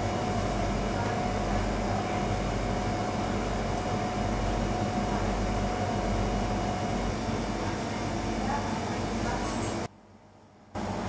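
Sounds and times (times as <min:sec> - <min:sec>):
bakery machinery humming: 0:00.0 - 0:11.0.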